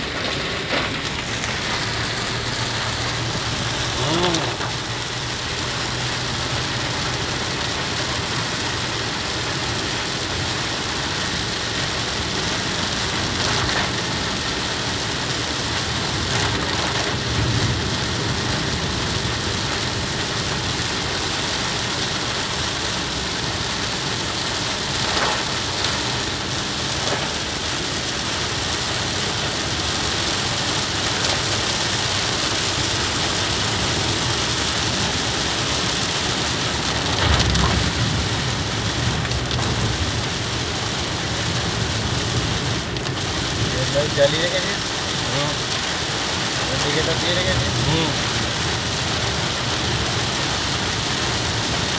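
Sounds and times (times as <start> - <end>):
car engine humming: 0.0 - 51.9
heavy rain on car roof: 0.0 - 51.9
tyres on wet road: 0.0 - 51.9.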